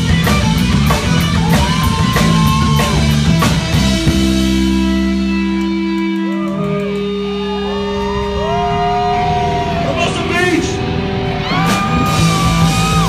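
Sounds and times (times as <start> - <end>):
drums: 0.0 - 13.0
electric guitar long bending notes: 0.0 - 13.0.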